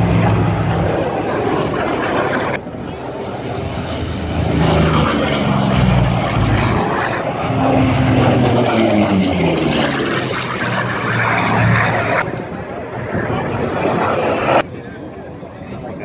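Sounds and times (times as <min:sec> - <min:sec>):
propeller plane flying overhead: 0:00.0 - 0:16.0.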